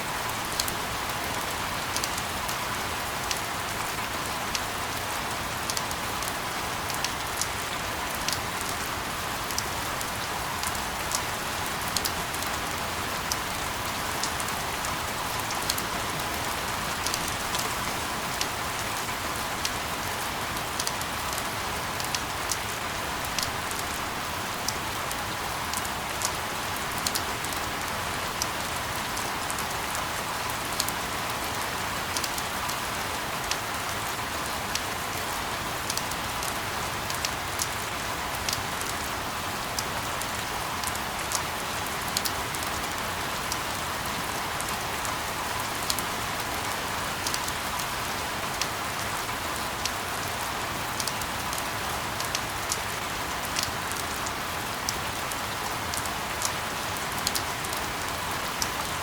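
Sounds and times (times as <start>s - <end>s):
rain falling on surface: 0.0s - 59.0s.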